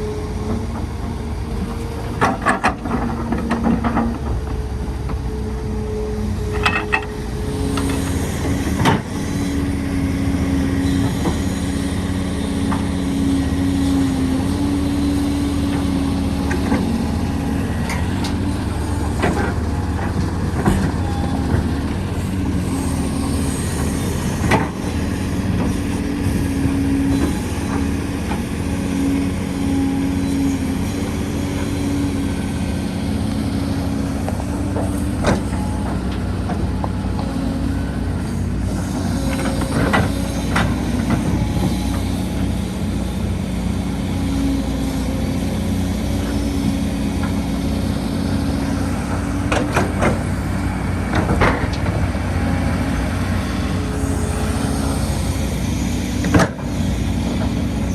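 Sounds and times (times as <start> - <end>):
heavy machinery engine drone: 0.0 - 57.9.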